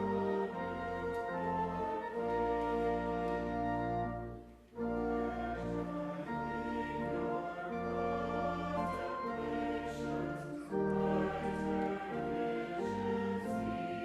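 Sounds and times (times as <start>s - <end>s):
organ playing a hymn: 0.0s - 14.0s.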